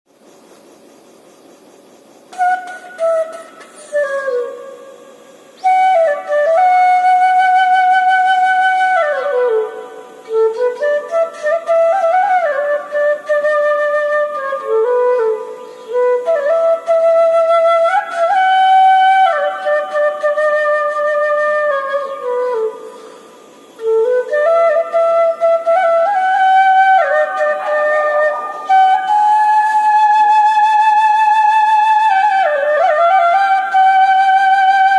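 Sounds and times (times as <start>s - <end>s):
solo flute melody: 2.3s - 34.9s.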